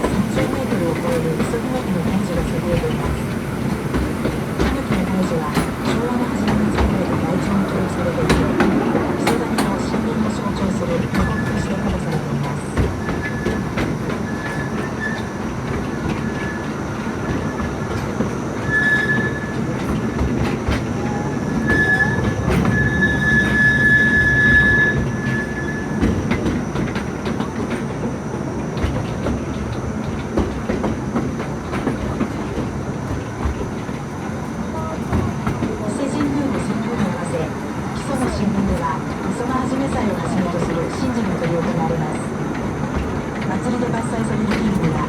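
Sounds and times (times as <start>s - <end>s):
train wheels rumbling on rails: 0.0s - 45.0s
wheels squealing on rails: 0.0s - 45.0s.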